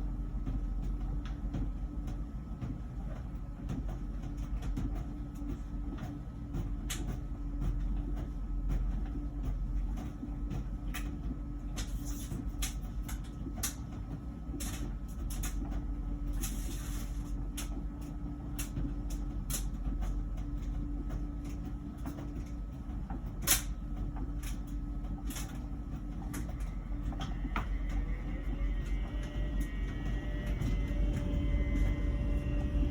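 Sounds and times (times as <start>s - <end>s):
dryer humming: 0.0s - 32.9s.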